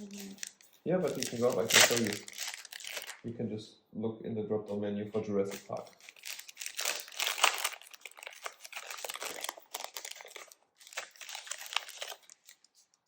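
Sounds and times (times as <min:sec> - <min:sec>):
foil wrapper crinkling: 0:00.0 - 0:03.2, 0:05.5 - 0:13.0.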